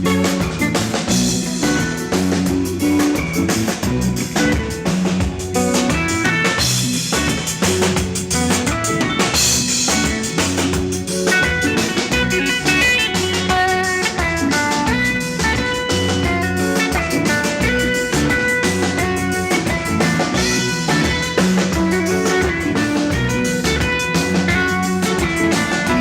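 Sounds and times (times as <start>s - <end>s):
band playing desert blues: 0.0s - 26.0s
guitar picking melodic lines: 0.0s - 26.0s.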